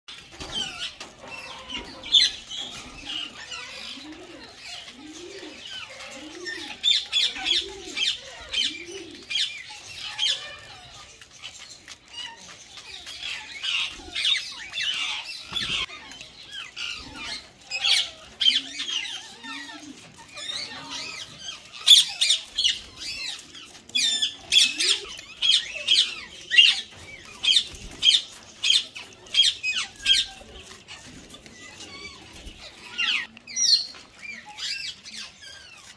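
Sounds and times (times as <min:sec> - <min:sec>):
parakeets squawking: 0:00.1 - 0:35.9.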